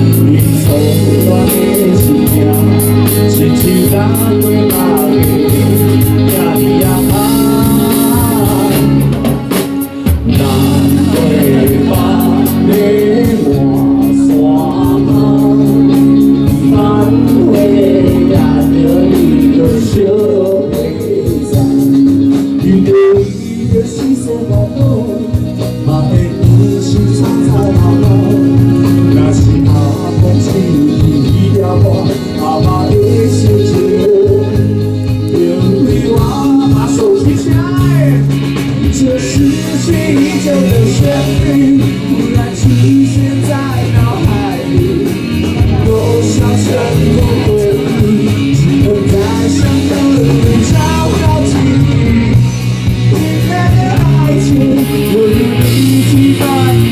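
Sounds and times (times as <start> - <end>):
live band music with guitar: 0.0 - 56.9.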